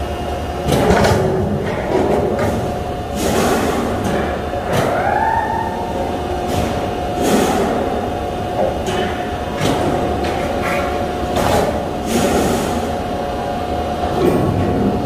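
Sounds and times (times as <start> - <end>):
machinery humming with whine: 0.0 - 15.0.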